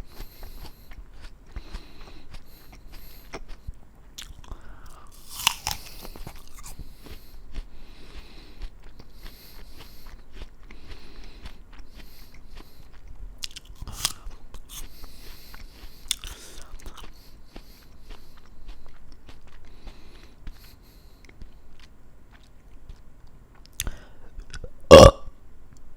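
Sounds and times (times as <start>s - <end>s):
apple being bitten and chewed: 0.0s - 25.1s.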